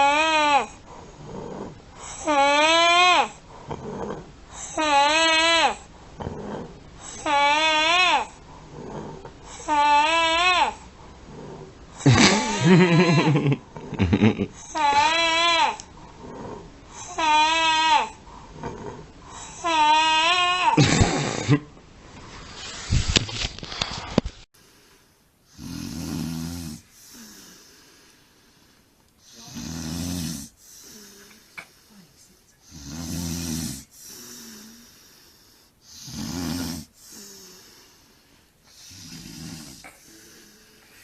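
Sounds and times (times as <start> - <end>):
person snoring: 0.0 - 21.6, 25.5 - 41.0.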